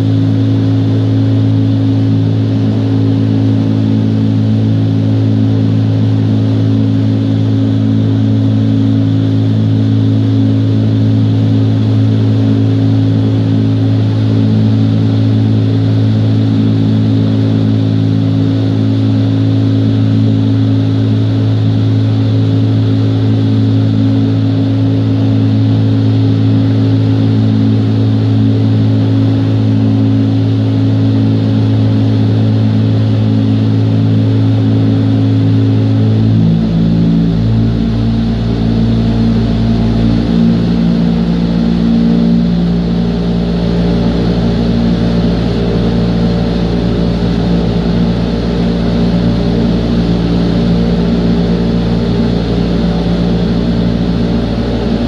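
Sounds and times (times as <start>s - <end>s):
deep rumble: 0.0s - 55.0s
wind tunnel fans rushing: 0.0s - 55.0s.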